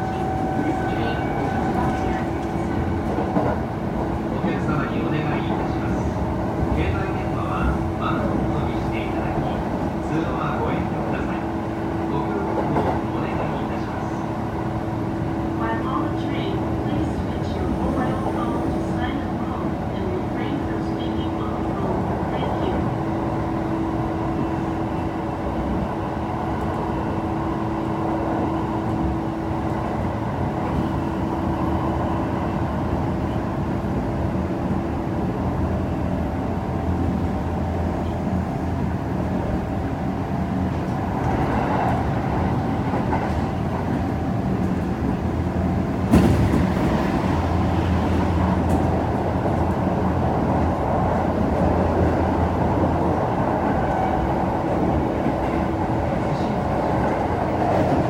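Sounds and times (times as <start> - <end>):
train motor hum: 0.0 - 58.0
train wheels rolling on rail: 0.0 - 58.0.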